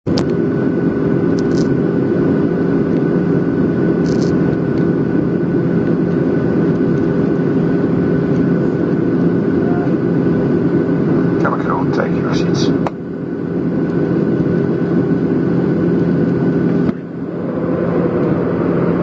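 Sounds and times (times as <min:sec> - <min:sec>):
faint steady whine: 0:00.1 - 0:19.0
jet engines droning: 0:00.1 - 0:19.0.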